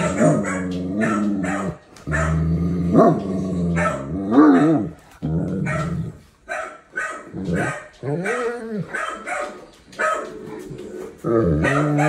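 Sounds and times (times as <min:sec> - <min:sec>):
dog barking and vocalizing: 0:00.0 - 0:12.0.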